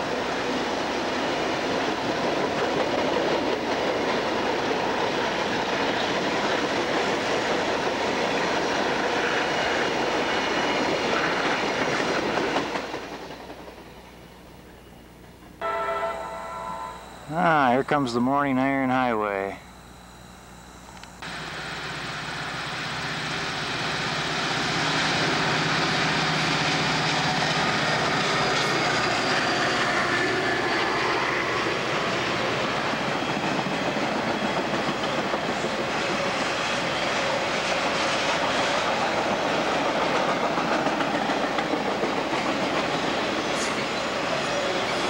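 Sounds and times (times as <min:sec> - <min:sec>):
train wheels rumbling on rails: 0:00.0 - 0:14.7, 0:21.2 - 0:45.0
diesel locomotive engine: 0:00.0 - 0:45.0.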